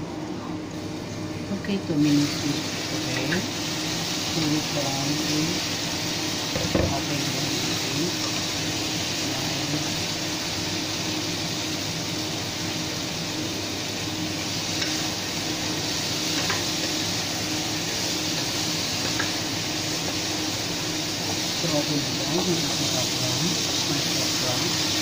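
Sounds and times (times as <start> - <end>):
food sizzling in a frying pan: 0.8 - 25.0.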